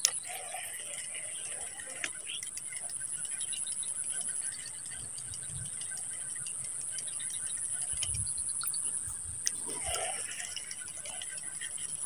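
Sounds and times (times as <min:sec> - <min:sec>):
faint regular ticking: 0:00.0 - 0:12.0
insect trill: 0:00.0 - 0:12.0.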